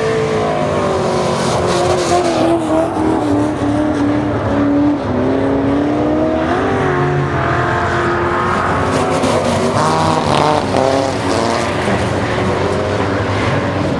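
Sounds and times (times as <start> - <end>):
race car engines revving: 0.0 - 13.9.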